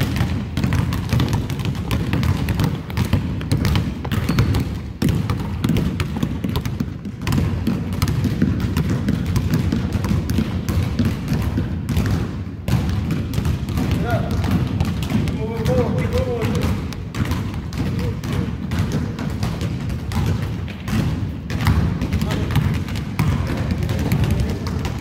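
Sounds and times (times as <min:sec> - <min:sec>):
basketballs bouncing on hardwood: 0:00.0 - 0:25.0.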